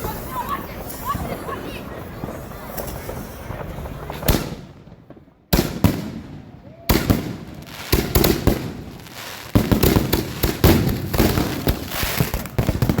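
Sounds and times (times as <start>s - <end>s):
fireworks banging and crackling: 0.0s - 13.0s.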